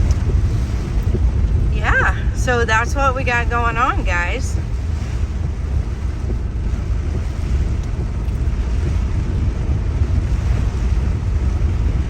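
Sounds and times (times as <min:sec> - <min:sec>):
car driving in heavy rain: 0:00.0 - 0:12.0.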